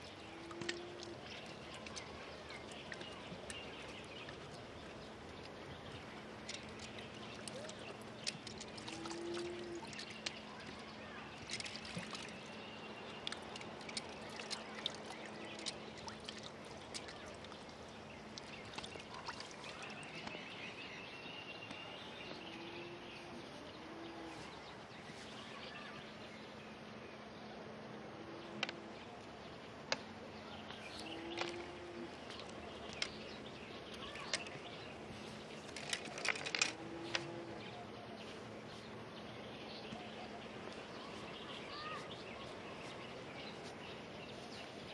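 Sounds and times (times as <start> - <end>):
water splashing and trickling: 0.0 - 26.7, 28.2 - 44.9
birds calling: 0.0 - 27.2, 28.1 - 44.9.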